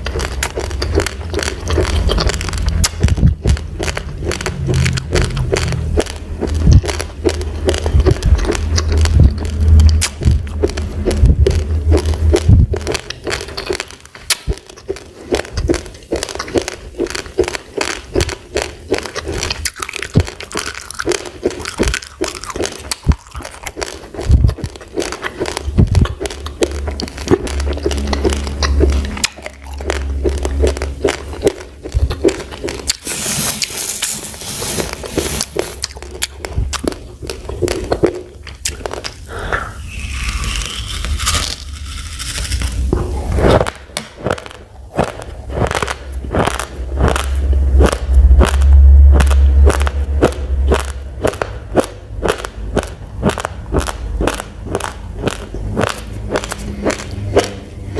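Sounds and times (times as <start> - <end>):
rice grains crunching when chewed: 0.0 - 57.9.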